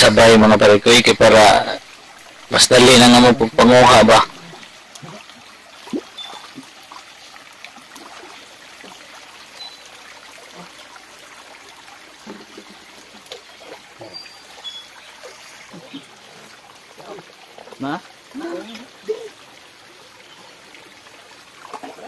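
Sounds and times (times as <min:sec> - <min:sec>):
stream water trickling: 0:00.1 - 0:22.0
splashes of wading: 0:01.8 - 0:22.0.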